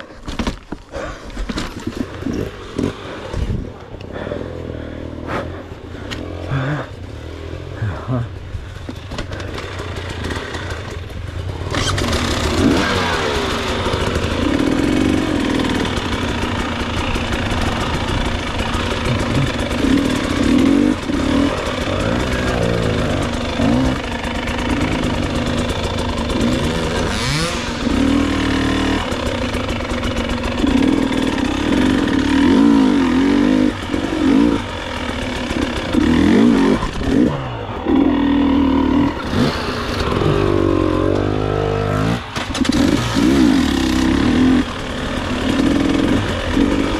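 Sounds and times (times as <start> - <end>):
motorcycle engine revving: 0.5 - 46.9.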